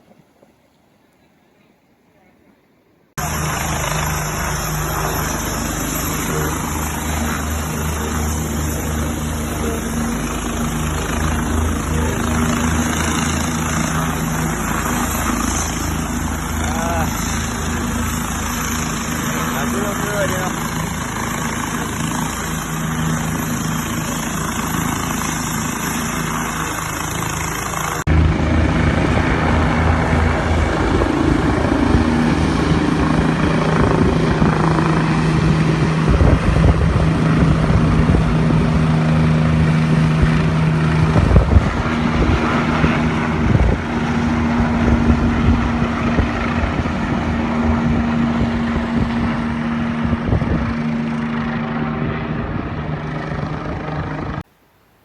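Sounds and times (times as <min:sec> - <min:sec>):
helicopter flying: 0:03.2 - 0:54.5.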